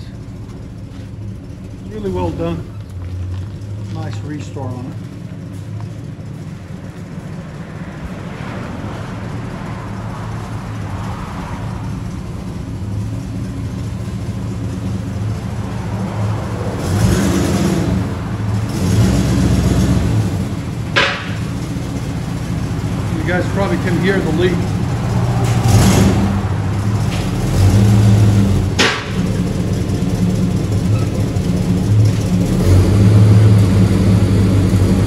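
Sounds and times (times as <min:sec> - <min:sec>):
vee eight engine rumbling: 0:00.0 - 0:35.0.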